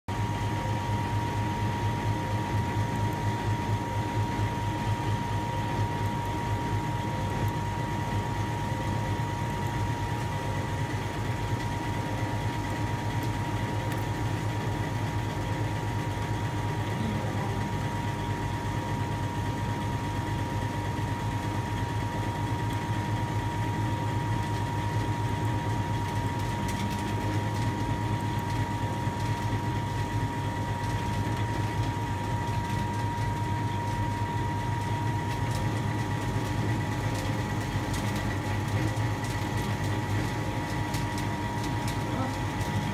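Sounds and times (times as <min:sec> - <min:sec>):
hydraulic unit humming with whine: 0:00.1 - 0:42.9.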